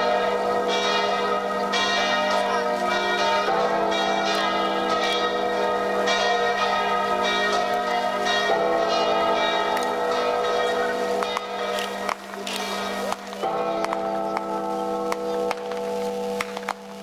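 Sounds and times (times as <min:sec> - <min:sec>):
bells ringing: 0:00.0 - 0:17.0.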